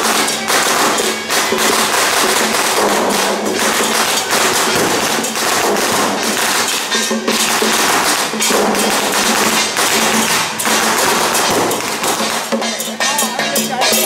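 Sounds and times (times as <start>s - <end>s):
procession drums and cymbals: 0.0s - 14.0s.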